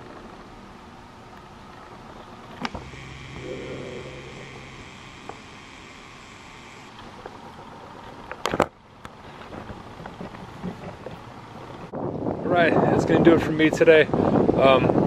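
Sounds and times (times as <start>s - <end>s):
faint hum: 0.0s - 12.6s.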